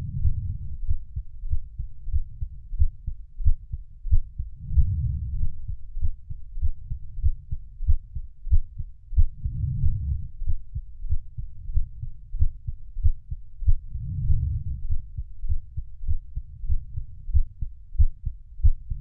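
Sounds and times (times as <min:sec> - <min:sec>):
heartbeat thudding: 0:00.0 - 0:19.0
soft low rushing: 0:00.0 - 0:19.0.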